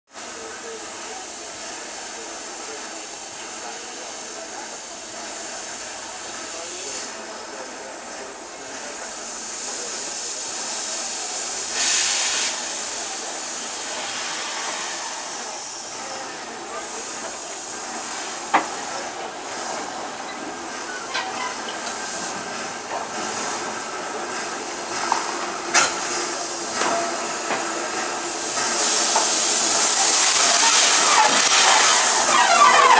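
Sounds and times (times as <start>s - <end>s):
rush of steam: 0.1s - 32.9s
steam hissing: 0.2s - 32.9s.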